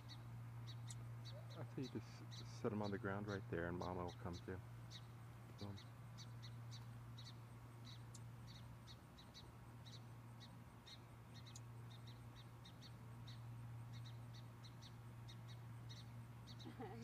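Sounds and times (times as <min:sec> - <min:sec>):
songbird chirping: 0:00.0 - 0:17.0
steady low hum: 0:00.0 - 0:17.0.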